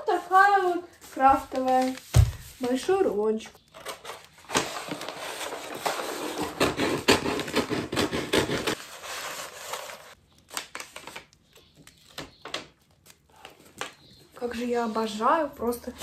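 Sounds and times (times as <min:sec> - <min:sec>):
wrapping paper rustling: 0:00.0 - 0:07.5, 0:08.6 - 0:15.2.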